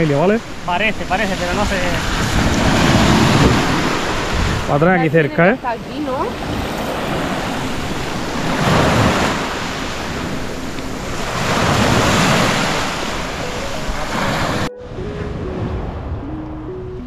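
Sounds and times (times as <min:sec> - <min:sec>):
sea waves breaking on shore: 0:00.0 - 0:16.4
wind buffeting microphone: 0:00.0 - 0:17.0.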